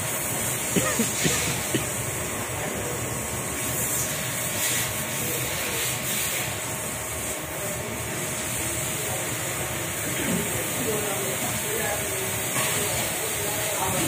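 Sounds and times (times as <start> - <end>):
machinery humming and hissing: 0.0 - 14.0.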